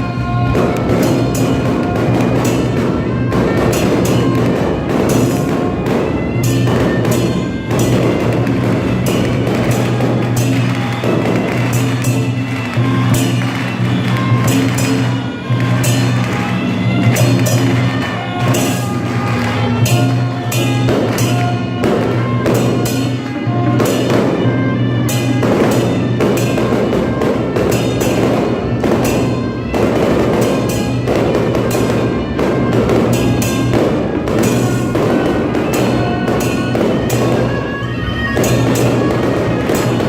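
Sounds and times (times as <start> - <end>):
drums and cymbals: 0.0 - 40.0
held melody line: 0.0 - 40.0.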